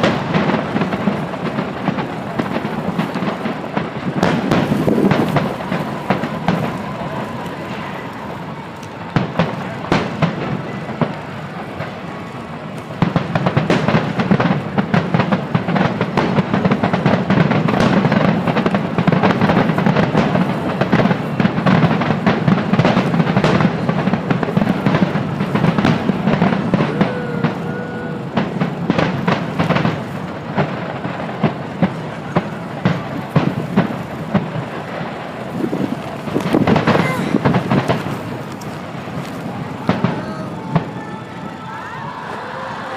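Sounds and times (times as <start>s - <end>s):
continuous low rumble: 0.0s - 42.9s
fireworks bangs and cracks: 0.0s - 42.9s.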